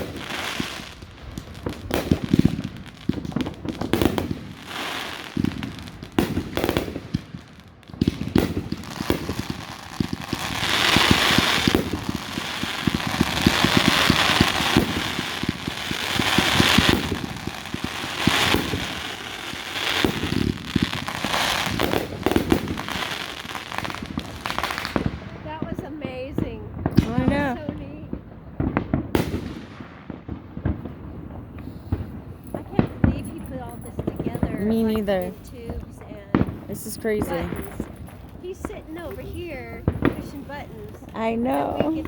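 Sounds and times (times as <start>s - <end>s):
firework crackling: 0.0s - 42.0s
firework shells bursting: 0.0s - 42.0s.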